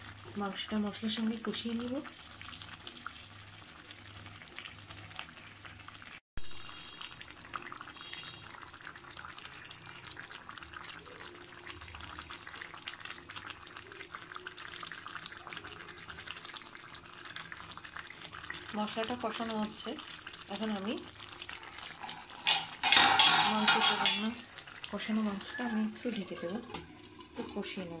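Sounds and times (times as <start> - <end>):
meat sizzling in oil: 0.0 - 28.0.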